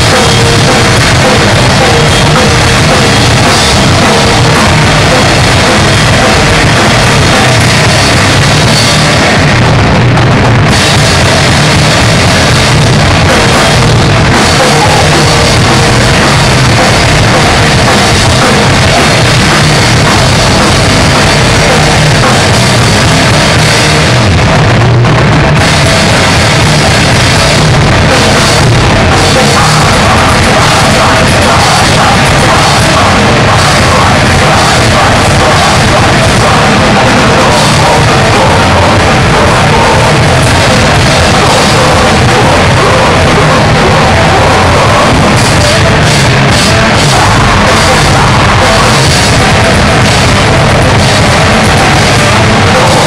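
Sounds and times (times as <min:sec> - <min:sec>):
distorted guitars: 0:00.0 - 0:53.0
drum kit: 0:00.0 - 0:53.0.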